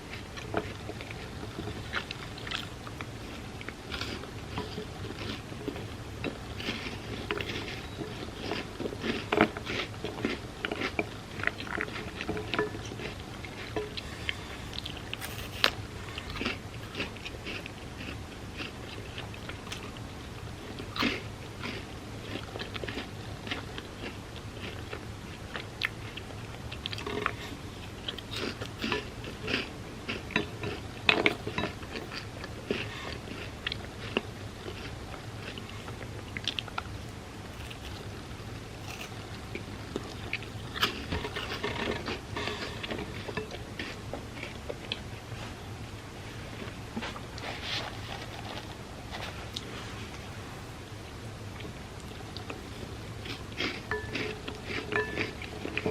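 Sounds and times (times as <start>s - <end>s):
person chewing crunchy wafers: 0.0s - 45.3s, 46.5s - 49.7s, 51.5s - 55.9s.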